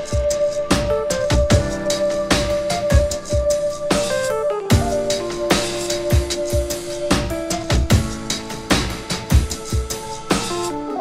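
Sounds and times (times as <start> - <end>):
background music with drums: 0.0 - 11.0.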